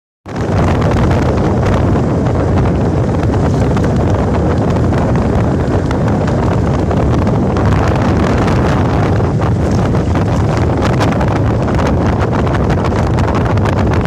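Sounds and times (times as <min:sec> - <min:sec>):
wind buffeting microphone: 0:00.2 - 0:14.0.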